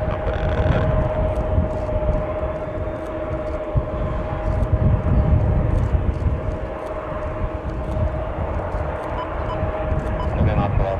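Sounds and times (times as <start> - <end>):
jet engine whine: 0.0 - 10.9
jet engines deep rumble: 0.0 - 10.9.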